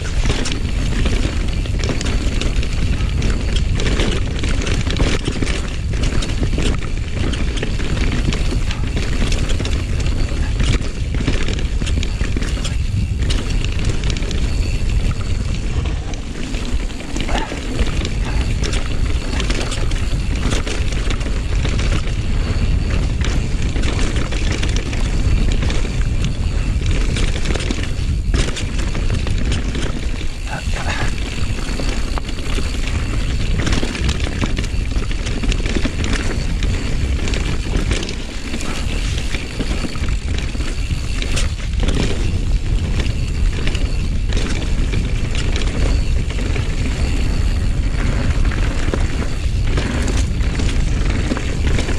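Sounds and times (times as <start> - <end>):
bike clicking and rattling: 0.0 - 51.9
wind and tyres rumbling: 0.0 - 51.9.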